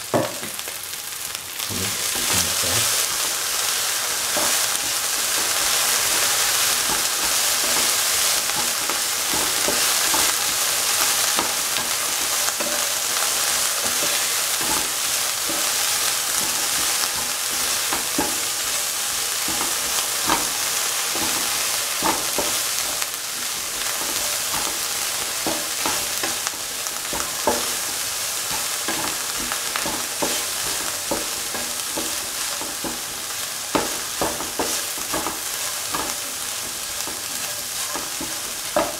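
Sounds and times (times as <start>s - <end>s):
okra sizzling in oil: 0.0s - 38.9s
spatula scraping and tapping pan: 2.1s - 38.9s.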